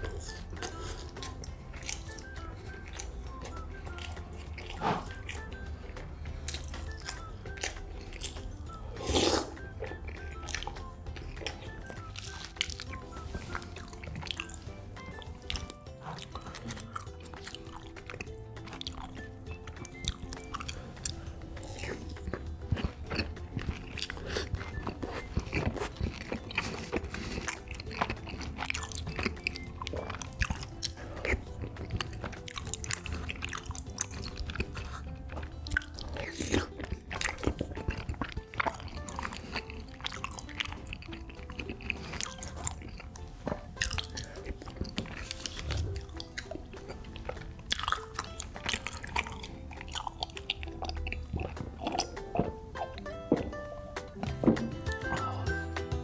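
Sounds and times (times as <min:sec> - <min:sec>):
background music: 0:00.0 - 0:56.0
close chewing and mouth sounds: 0:00.0 - 0:56.0.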